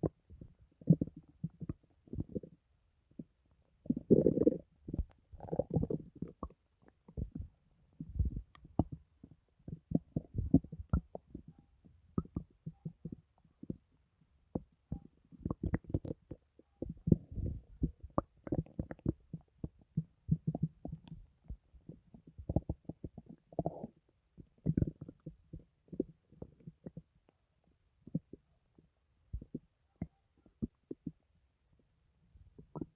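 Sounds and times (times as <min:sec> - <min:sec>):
stomach gurgling and rumbling: 0:00.0 - 0:32.9.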